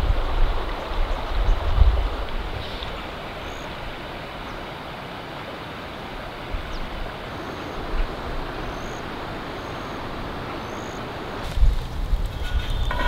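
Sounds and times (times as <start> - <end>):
wind buffeting microphone: 0.0 - 4.1, 6.5 - 13.0
mountain stream rushing over riffles: 0.0 - 13.0.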